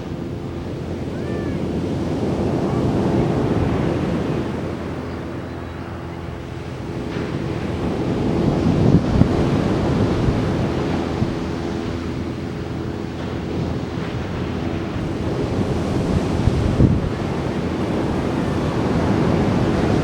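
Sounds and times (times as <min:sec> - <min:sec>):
ocean surf breaking on beach: 0:00.0 - 0:20.0
wind buffeting microphone: 0:00.0 - 0:20.0.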